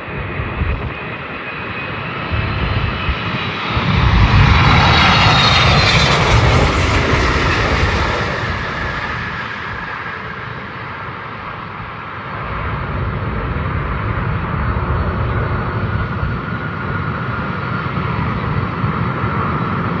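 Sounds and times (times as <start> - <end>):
jet engine rumble with whine: 0.0 - 20.0.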